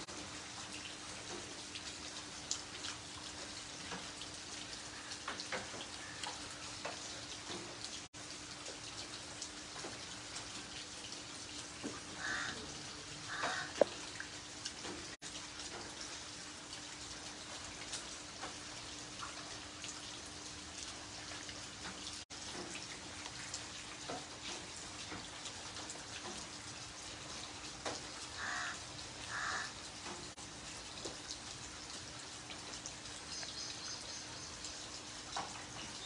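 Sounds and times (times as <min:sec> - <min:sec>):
rain pattering on wet concrete: 0:00.0 - 0:36.0.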